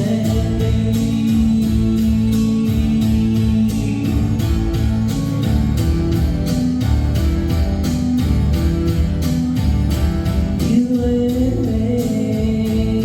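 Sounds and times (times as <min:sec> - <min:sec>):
band playing guitars over beat: 0:00.0 - 0:13.0.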